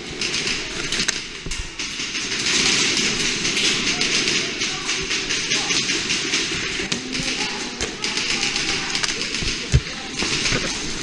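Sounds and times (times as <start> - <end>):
airsoft guns firing: 0.0 - 11.0.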